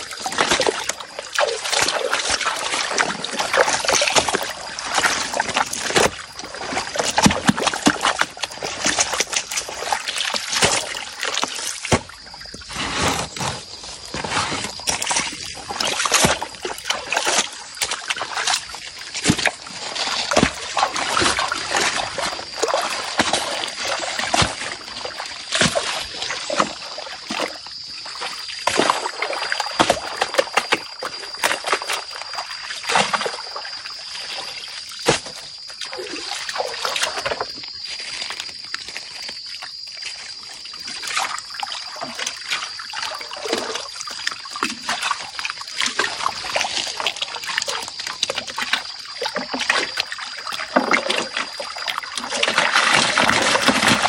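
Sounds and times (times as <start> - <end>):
water sloshing in a pan: 0.0 - 54.0.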